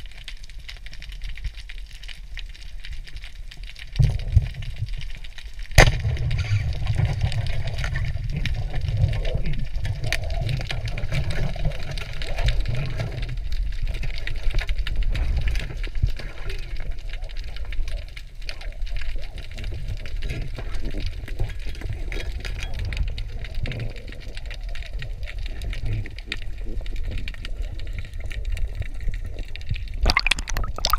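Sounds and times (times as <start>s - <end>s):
crackling clicks: 0.0s - 30.9s
underwater rumble of moving water: 0.0s - 30.9s.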